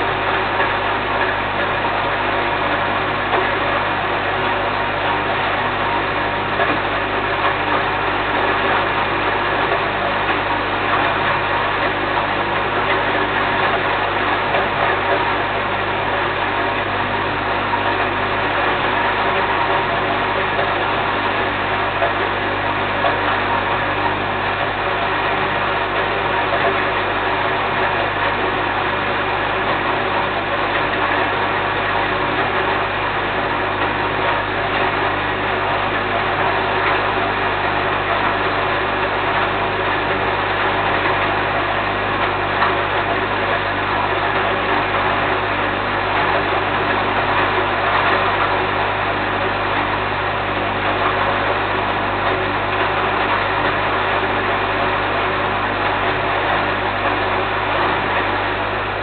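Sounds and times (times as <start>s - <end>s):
electric grain mill grinding: 0.0s - 59.0s.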